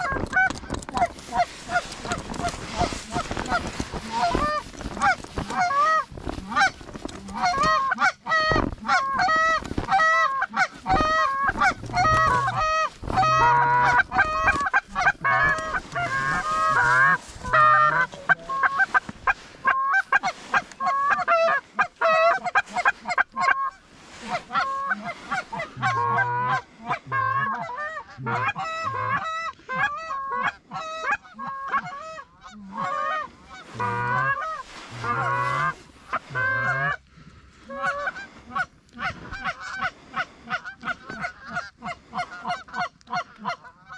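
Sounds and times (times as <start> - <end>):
goose honks and clucks: 0.0 - 43.9.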